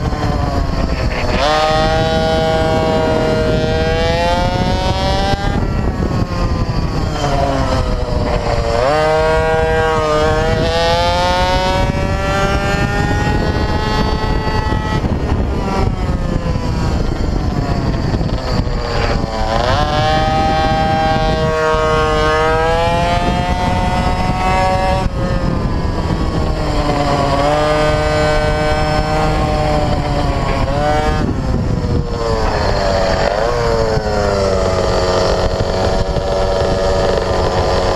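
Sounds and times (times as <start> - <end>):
mini bike engine accelerating: 0.0 - 37.9
wind rushing over camera: 0.0 - 37.9.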